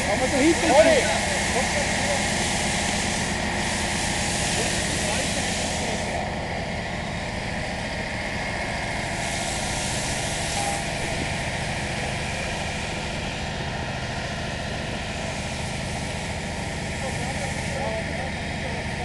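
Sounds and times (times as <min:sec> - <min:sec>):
water spraying from hose: 0:00.0 - 0:06.3, 0:09.0 - 0:19.0
engine running: 0:00.0 - 0:19.0.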